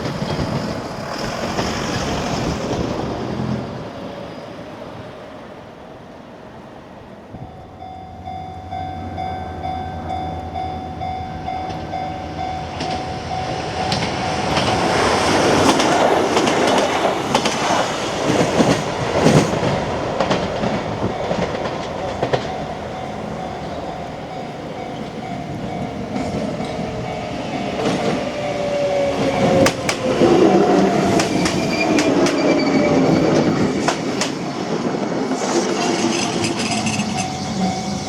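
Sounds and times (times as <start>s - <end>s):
train wheels clattering on rail joints: 0.0s - 3.9s, 11.4s - 38.0s.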